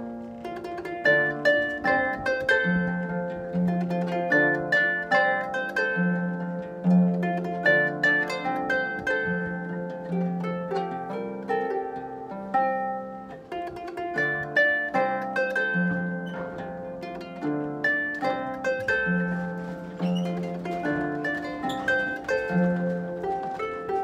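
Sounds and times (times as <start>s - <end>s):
harp being plucked: 0.0s - 24.0s.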